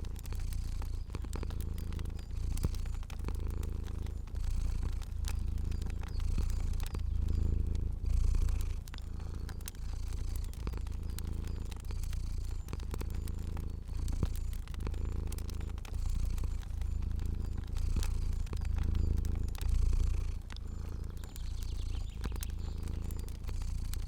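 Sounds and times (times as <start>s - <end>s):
cat purring: 0.0s - 24.0s
fire crackling pops: 0.0s - 24.0s.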